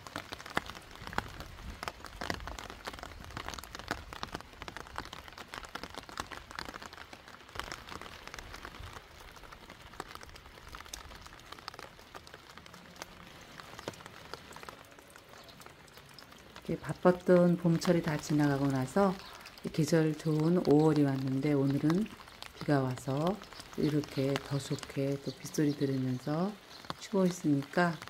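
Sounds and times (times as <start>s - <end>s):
rain drops ticking: 0.0s - 28.0s.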